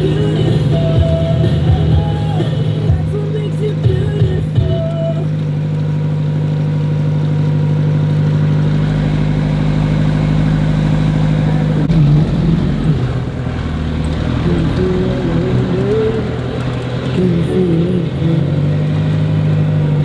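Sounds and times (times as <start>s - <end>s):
car engine running: 0.0s - 20.0s
deeper rumble: 0.0s - 20.0s
road rumble: 0.0s - 20.0s.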